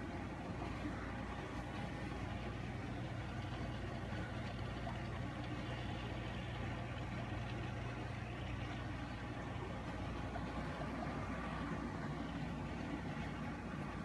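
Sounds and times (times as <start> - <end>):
aquarium air pump humming: 0.0 - 14.0.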